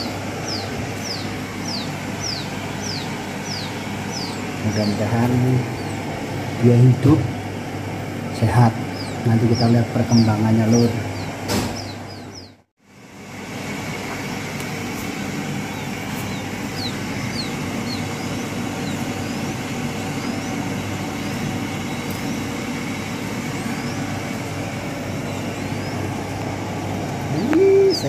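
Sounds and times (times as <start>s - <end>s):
chicks peeping: 0.0s - 12.6s, 13.9s - 28.0s
low background hum: 0.0s - 28.0s.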